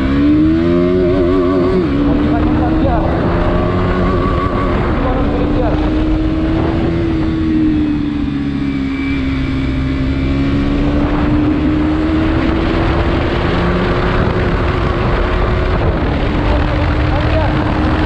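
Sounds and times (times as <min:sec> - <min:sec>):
motorcycle engine running: 0:00.0 - 0:18.0
wind rush on microphone: 0:00.0 - 0:18.0.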